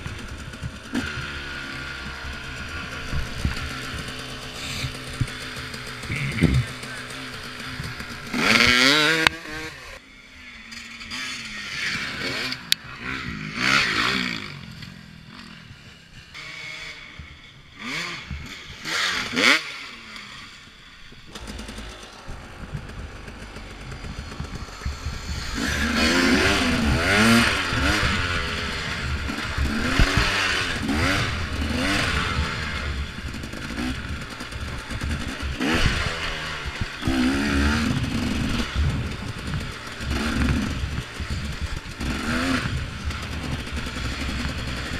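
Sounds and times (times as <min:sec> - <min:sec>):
dirt bike engines revving: 0:00.0 - 0:44.9.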